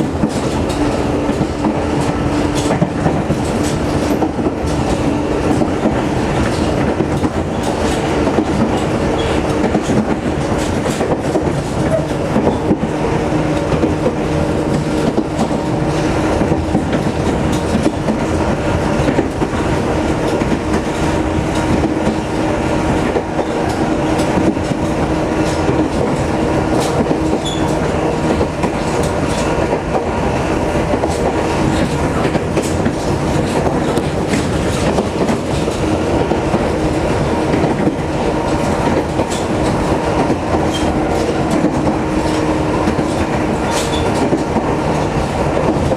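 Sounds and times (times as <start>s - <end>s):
steady train hum: 0.0s - 45.9s
train wheels rumbling on rails: 0.0s - 45.9s
wheels clicking over rail joints: 0.0s - 45.9s.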